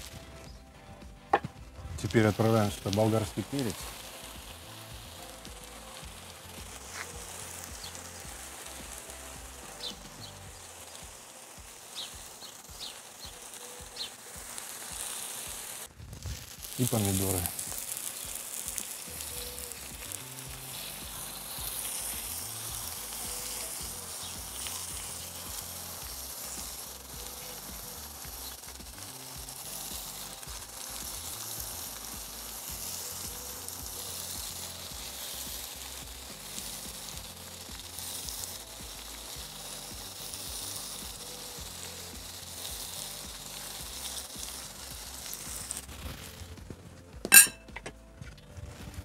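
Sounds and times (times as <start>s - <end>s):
food sizzling in a pot: 0.0s - 47.8s.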